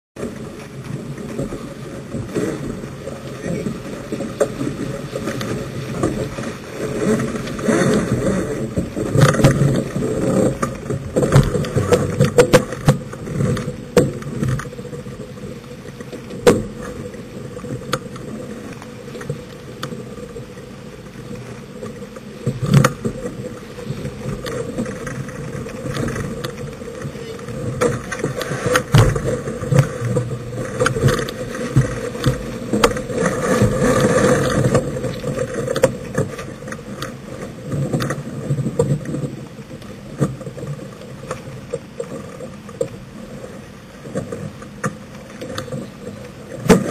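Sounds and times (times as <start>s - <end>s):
water rushing: 0.2s - 46.9s.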